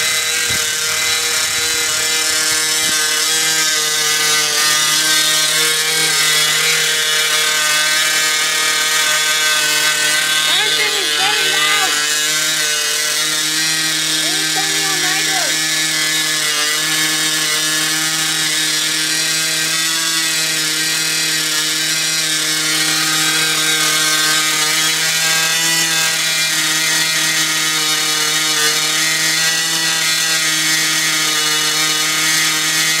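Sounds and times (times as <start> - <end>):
model airplane engine running: 0.0 - 33.0.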